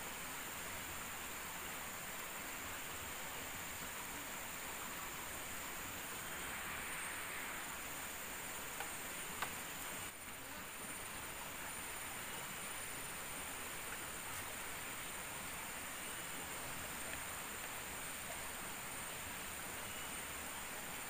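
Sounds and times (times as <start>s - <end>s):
even hiss: 0.0s - 21.0s
insects droning high-pitched: 0.0s - 21.0s.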